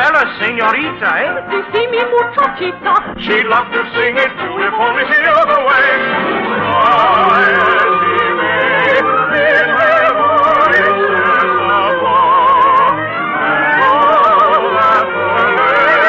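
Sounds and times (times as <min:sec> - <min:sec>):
operatic singing with vibrato: 0:00.0 - 0:16.0
orchestral accompaniment: 0:00.0 - 0:16.0.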